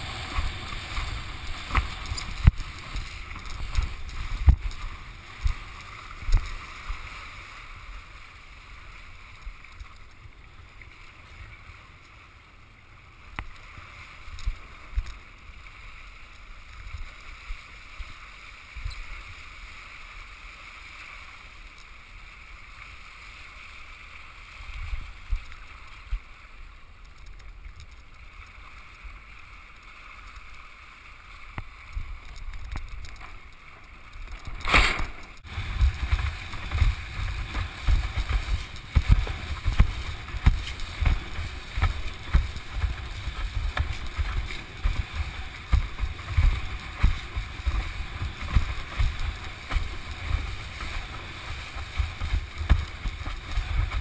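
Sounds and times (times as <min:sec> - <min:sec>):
water hissing and rushing: 0:00.0 - 0:54.0.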